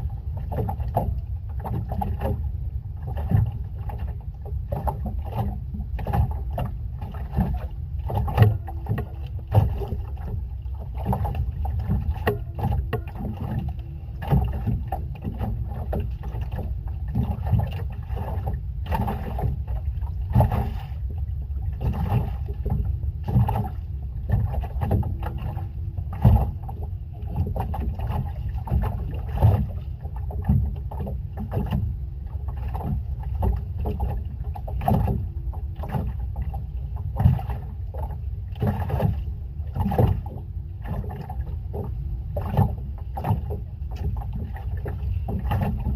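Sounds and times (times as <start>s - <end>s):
low steady rumble: 0.0s - 45.9s
water slapping against hull: 0.0s - 45.9s.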